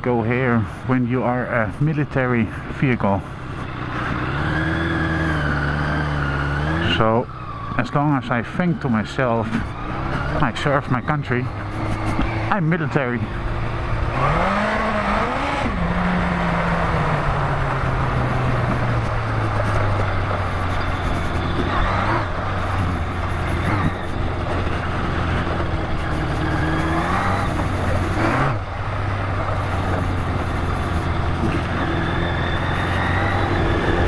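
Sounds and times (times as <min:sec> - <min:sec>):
road noise: 0:00.0 - 0:34.0
motorcycle engine revving: 0:00.3 - 0:34.0.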